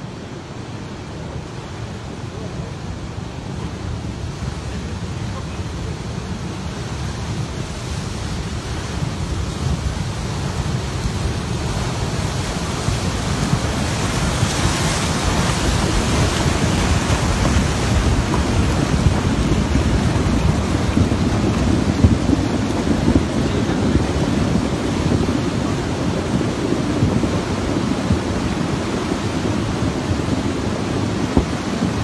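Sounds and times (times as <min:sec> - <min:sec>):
muddy floodwater rushing: 0:00.0 - 0:32.0.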